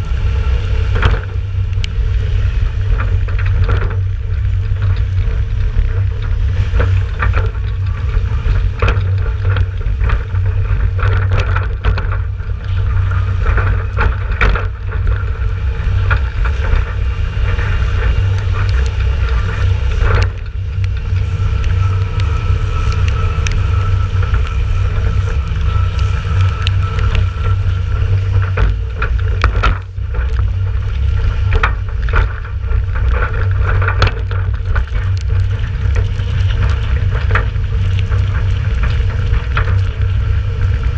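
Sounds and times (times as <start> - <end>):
trailer rumbling on wet road: 0.0 - 40.9
wind buffeting microphone: 0.0 - 40.9.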